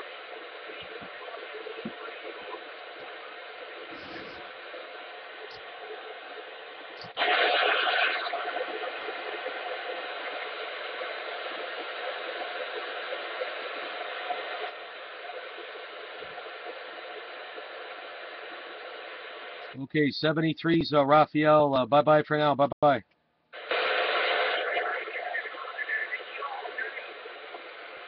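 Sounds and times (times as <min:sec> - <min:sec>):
radio speaker hissing: 0:00.0 - 0:23.0, 0:23.6 - 0:28.0.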